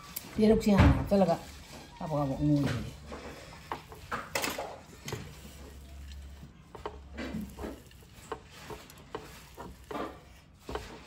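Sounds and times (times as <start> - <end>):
herbs crunching and rustling: 0.0 - 11.0.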